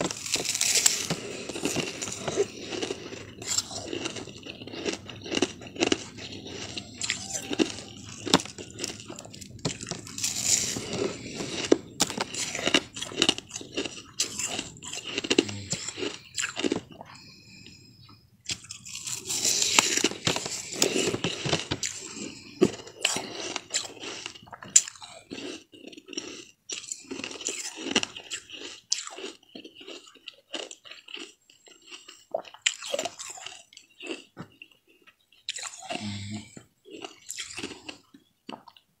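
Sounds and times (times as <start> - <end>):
crunchy snack chewing: 0.0 - 38.9.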